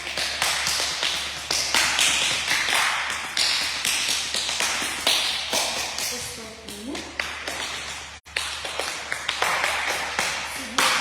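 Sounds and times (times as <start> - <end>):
palms slapping the body: 0.0 - 11.0.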